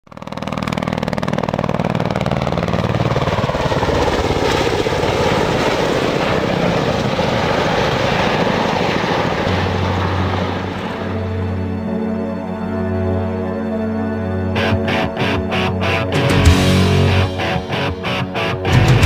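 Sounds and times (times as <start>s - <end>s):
helicopter rotor chop: 0.1s - 11.8s, 14.6s - 19.0s
turbine engine noise: 0.1s - 19.0s.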